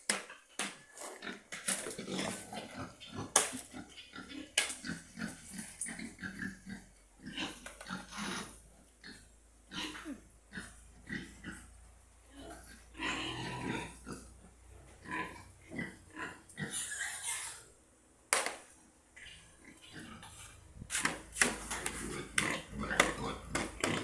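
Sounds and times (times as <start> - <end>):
pigs grunting: 1.0 - 17.8, 19.2 - 24.0.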